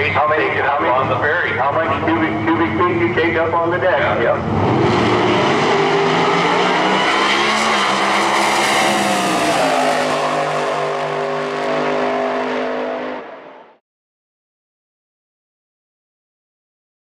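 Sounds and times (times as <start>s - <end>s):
drag car engines at full throttle: 0.0s - 13.8s.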